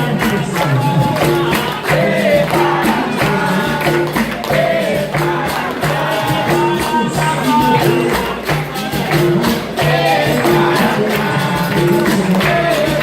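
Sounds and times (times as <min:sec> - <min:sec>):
berimbau: 0:00.0 - 0:13.0
group singing in chorus: 0:00.0 - 0:13.0
tambourine rhythm: 0:00.0 - 0:13.0.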